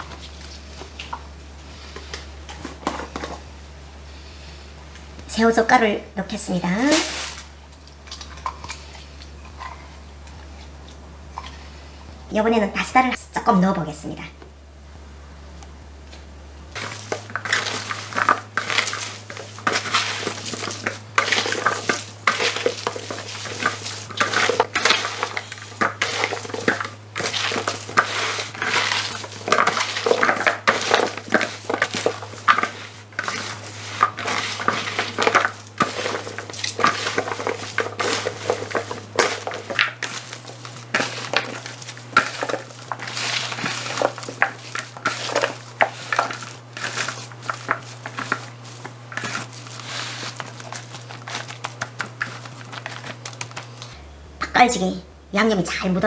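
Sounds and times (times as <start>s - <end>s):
leaves rustling and squishing by hand: 0.0s - 3.5s, 5.2s - 11.9s, 16.7s - 54.0s.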